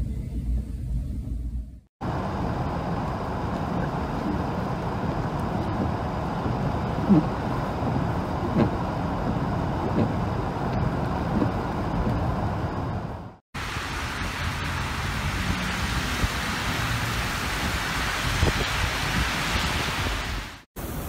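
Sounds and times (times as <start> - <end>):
car tyre noise on snowy road: 0.5 - 21.0.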